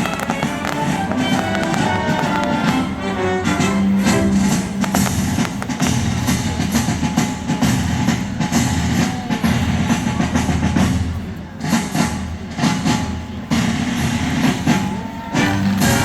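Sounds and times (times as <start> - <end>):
fireworks bangs and crackles: 0.0 - 16.0
loud music with drums: 0.0 - 16.0.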